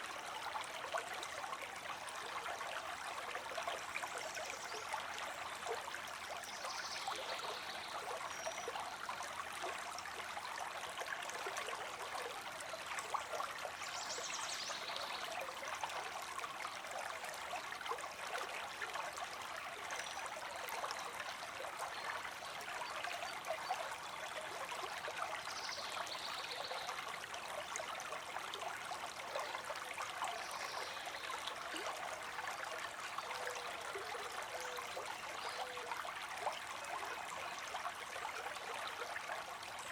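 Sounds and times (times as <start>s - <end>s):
creek water streaming: 0.0s - 39.9s.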